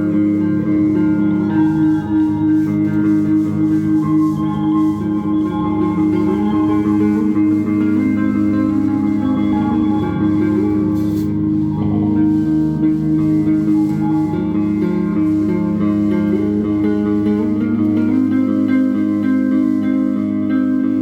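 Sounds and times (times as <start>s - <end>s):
band playing guitars over bass: 0.0s - 21.0s
wavering guitar line: 0.0s - 21.0s.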